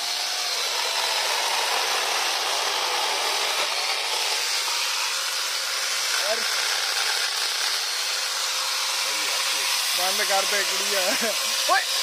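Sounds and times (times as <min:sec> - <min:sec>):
electric chainsaw cutting log: 0:00.0 - 0:12.0.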